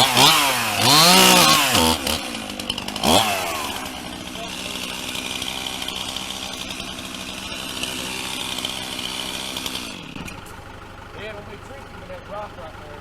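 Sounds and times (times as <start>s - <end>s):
chainsaw idling and shutting off: 0.0s - 13.0s.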